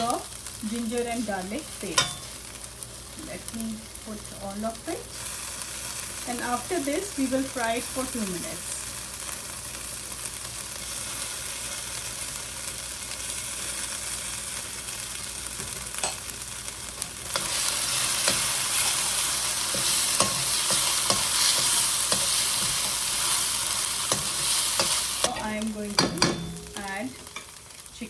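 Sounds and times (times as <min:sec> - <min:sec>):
onions sizzling in oil: 0:00.0 - 0:28.0.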